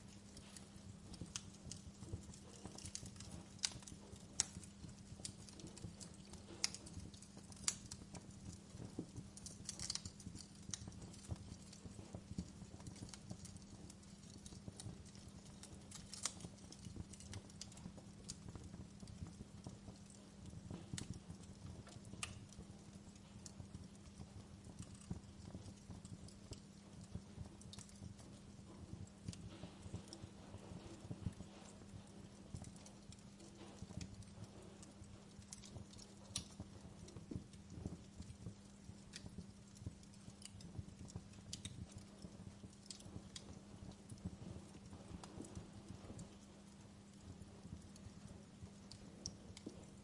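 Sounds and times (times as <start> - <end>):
low steady hum: 0.0 - 50.0
wood fire crackling: 0.0 - 50.0.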